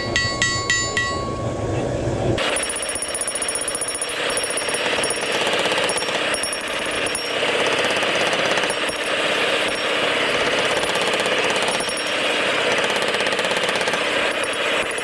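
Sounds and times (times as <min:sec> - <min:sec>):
power hammer striking metal: 0:00.0 - 0:01.4, 0:02.4 - 0:15.0.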